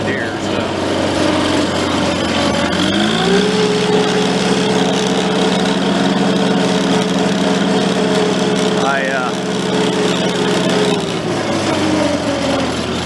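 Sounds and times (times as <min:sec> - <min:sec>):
tractor engine revving: 0:00.0 - 0:13.0.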